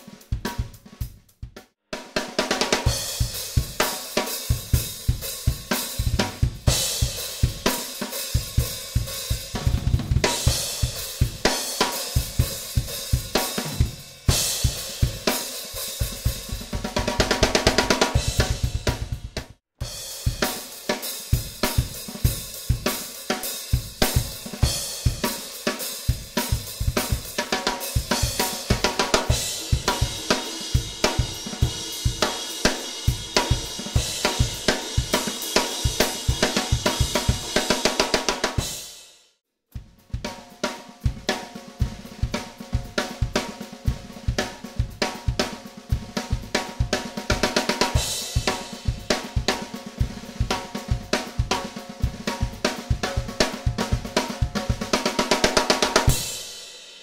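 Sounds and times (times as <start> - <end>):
drum kit played with sticks: 0.0 - 57.0.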